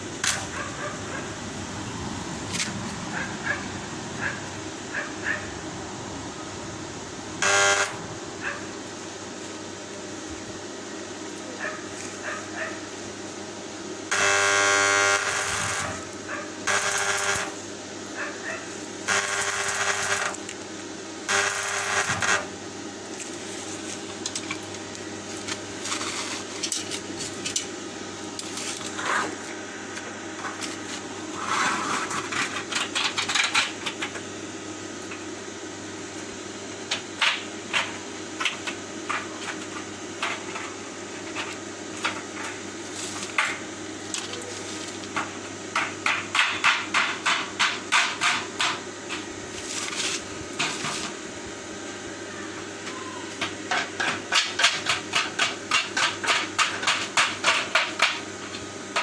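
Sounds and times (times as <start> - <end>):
steady low hum: 0.0 - 52.4.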